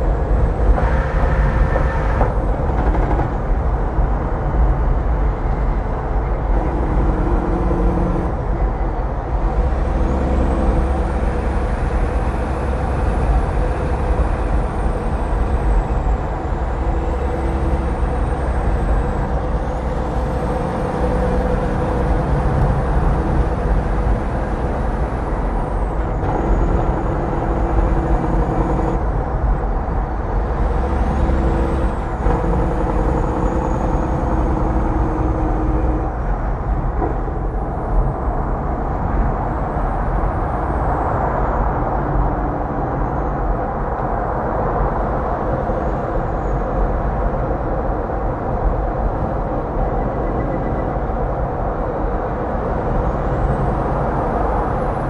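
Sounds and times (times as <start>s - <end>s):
truck diesel engine drone: 0.0s - 55.0s
tyre and road noise: 0.0s - 55.0s.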